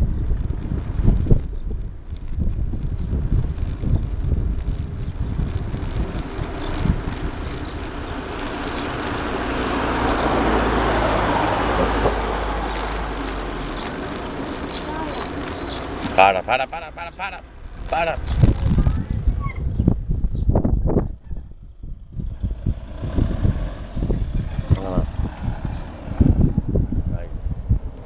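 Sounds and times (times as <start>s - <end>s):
wind buffeting microphone: 0.0s - 16.5s, 17.1s - 28.0s
car passing: 3.3s - 19.9s, 21.9s - 28.0s.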